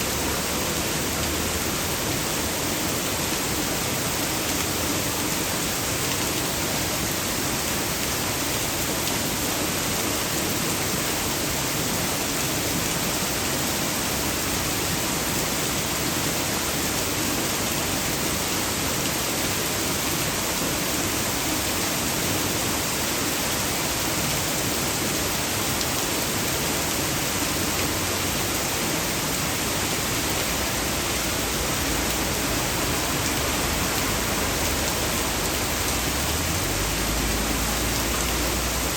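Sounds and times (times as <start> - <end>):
torrential rain pouring: 0.0 - 38.9
water gushing from storm drain: 0.0 - 38.9.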